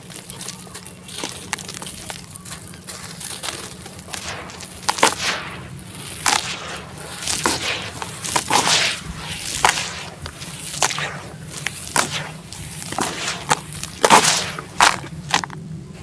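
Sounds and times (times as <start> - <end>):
cement cracking into water: 0.0 - 15.6.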